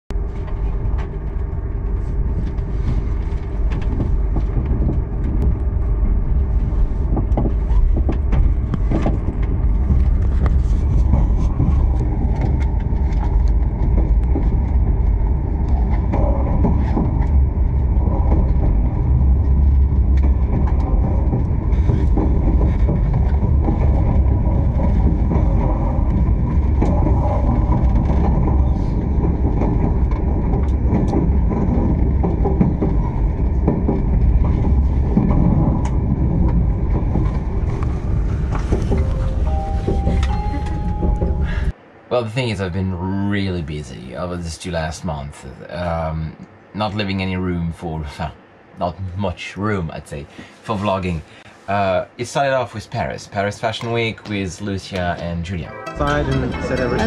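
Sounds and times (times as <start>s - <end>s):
train rumble inside carriage: 0.1s - 57.0s.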